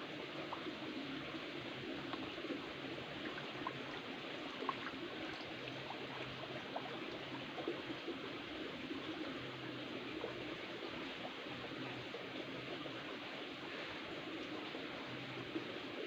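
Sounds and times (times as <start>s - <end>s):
stream trickling over rocks: 0.0s - 16.0s
water plinks: 0.3s - 15.8s.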